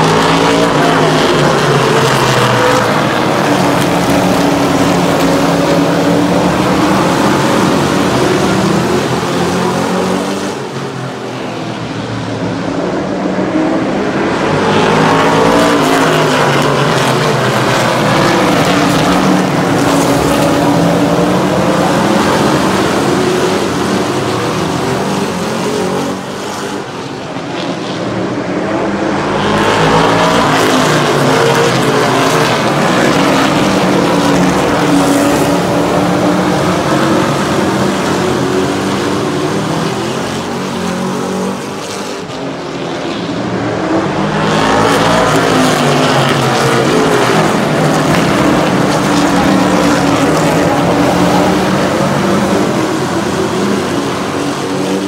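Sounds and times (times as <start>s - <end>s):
racing truck engines passing: 0.0s - 55.0s.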